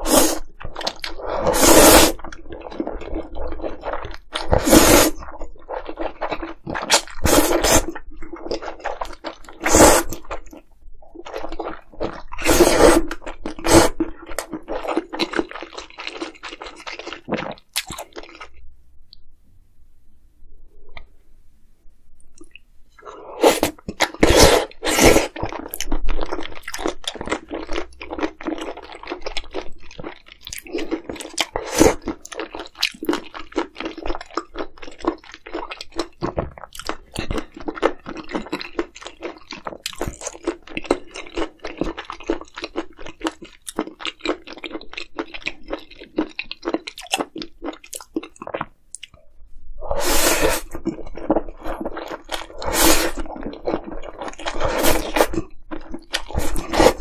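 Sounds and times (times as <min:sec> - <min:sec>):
person chewing crunchy food: 0:00.0 - 0:18.6, 0:22.3 - 0:57.0.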